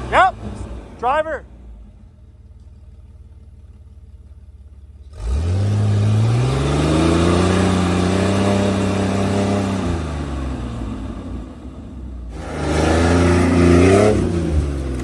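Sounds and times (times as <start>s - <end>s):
engine idling and revving: 0.0s - 15.0s.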